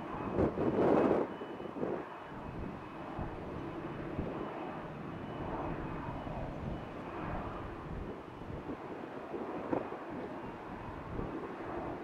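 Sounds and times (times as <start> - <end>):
distant jet engines: 0.0 - 12.0.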